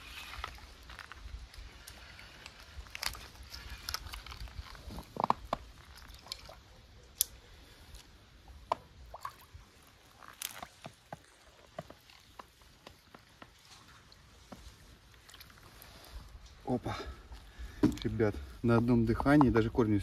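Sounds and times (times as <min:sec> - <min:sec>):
small water splashes and drips: 0:00.2 - 0:16.6.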